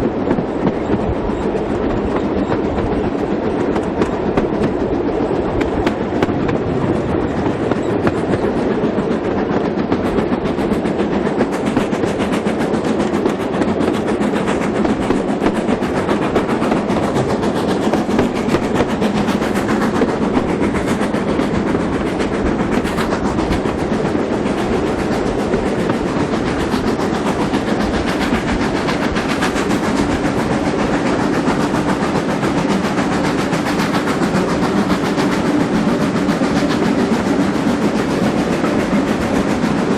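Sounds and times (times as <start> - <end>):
train rumbling: 0.0 - 39.9
wheels clattering over rails: 0.0 - 39.9.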